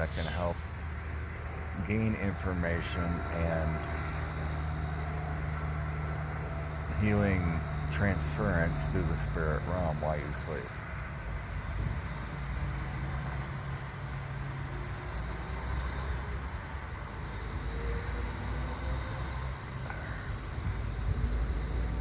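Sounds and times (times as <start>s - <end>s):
thin high whine: 0.0s - 22.0s.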